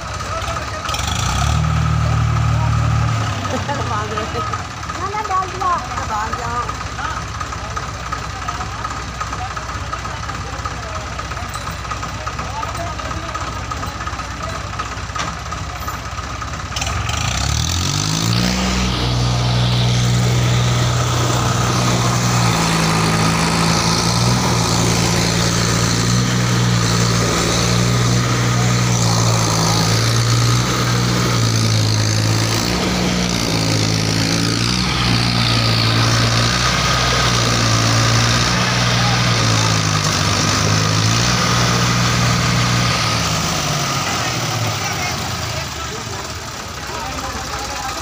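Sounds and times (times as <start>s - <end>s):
tractor diesel engines revving: 0.0s - 48.0s.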